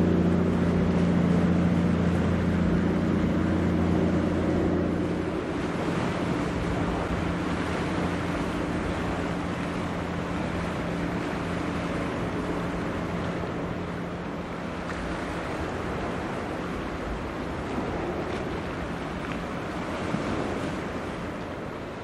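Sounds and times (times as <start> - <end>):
ship diesel engine hum: 0.0 - 22.0
wind and water rushing: 0.0 - 22.0.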